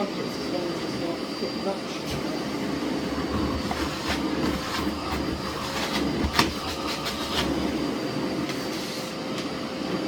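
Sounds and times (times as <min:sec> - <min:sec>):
vacuum cleaner whining: 0:00.0 - 0:10.0.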